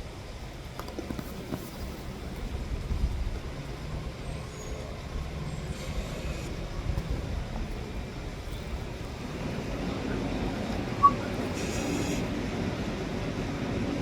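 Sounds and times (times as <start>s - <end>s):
garbage truck diesel engine rumbling: 0.1s - 13.8s.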